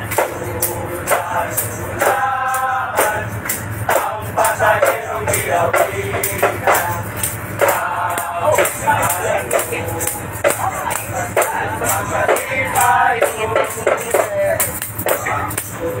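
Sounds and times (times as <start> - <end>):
group singing a carol: 0.0 - 16.0
jingling percussion: 0.0 - 16.0.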